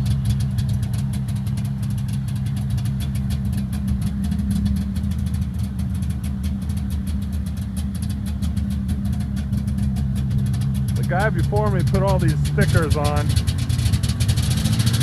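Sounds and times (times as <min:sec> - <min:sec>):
snowmobile engine idling: 0:00.0 - 0:14.4.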